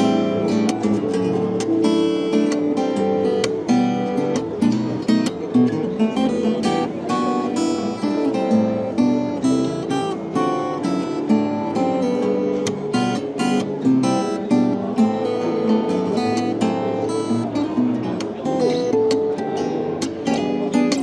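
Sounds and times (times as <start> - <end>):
fingerstyle acoustic guitar: 0.0 - 21.0.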